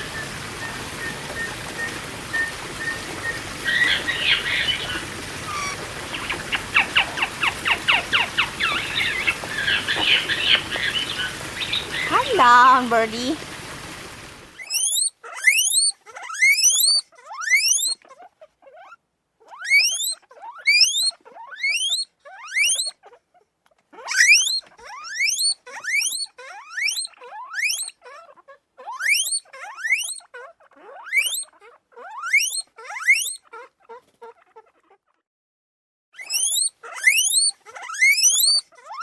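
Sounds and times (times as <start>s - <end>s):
guinea pig squealing: 3.6s - 13.1s, 14.6s - 35.2s, 36.2s - 39.0s.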